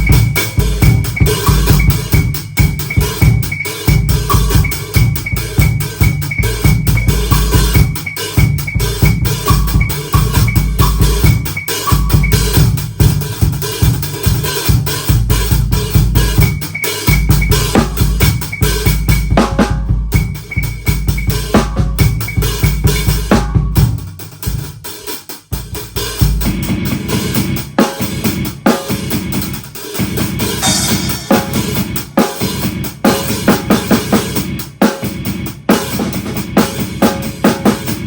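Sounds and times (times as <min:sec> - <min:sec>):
drum kit playing: 0:00.0 - 0:38.0.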